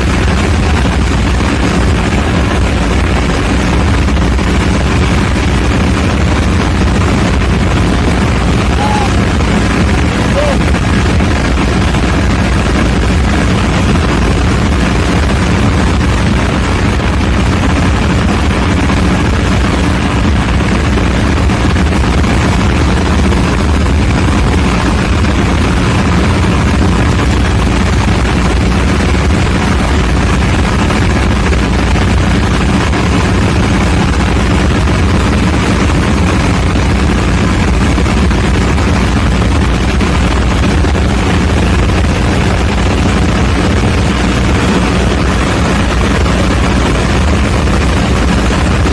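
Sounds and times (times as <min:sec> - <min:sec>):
diesel generator droning: 0:00.0 - 0:48.9.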